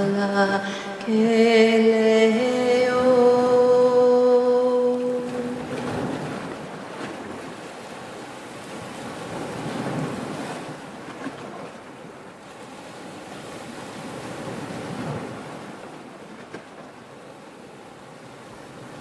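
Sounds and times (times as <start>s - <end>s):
ocean surf breaking on beach: 0.0s - 17.2s.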